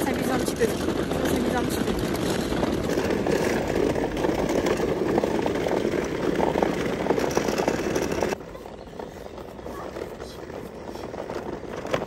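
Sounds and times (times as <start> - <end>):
plastic wheels rattling on asphalt: 0.0 - 12.0.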